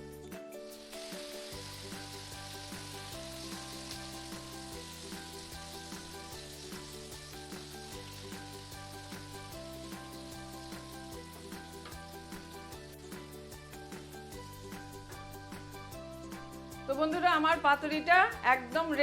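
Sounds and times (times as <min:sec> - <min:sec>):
background music: 0:00.0 - 0:19.0
food sizzling in oil: 0:00.2 - 0:19.0.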